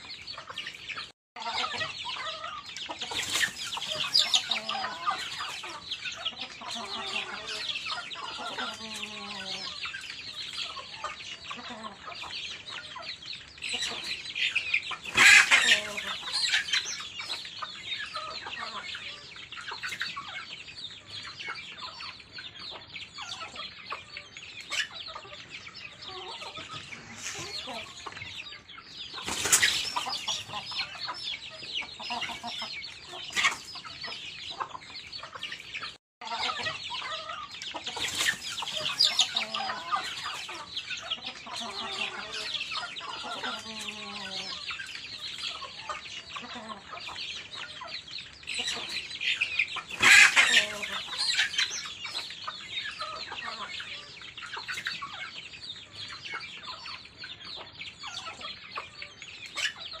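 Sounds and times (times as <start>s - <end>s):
chicks peeping: 0.0s - 60.0s
hens clucking: 0.0s - 60.0s.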